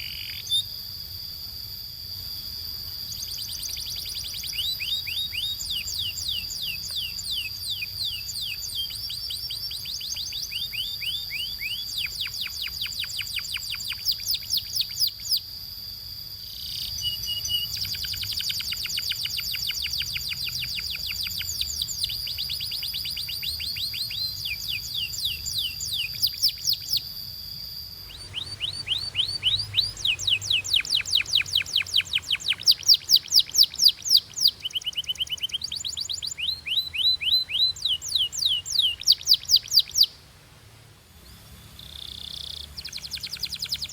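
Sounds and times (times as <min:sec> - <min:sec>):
canary singing trills: 0:00.0 - 0:01.4, 0:02.3 - 0:15.6, 0:16.3 - 0:40.2, 0:41.2 - 0:43.9.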